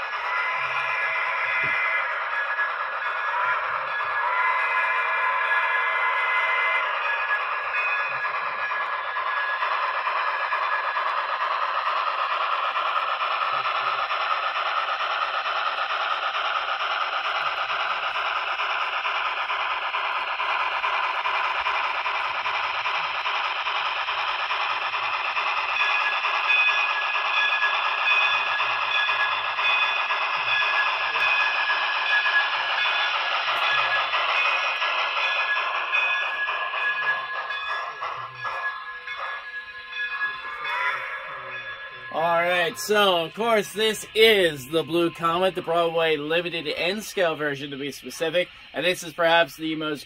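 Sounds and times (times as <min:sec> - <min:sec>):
tinny steam locomotive hiss: 0:03.6 - 0:50.0.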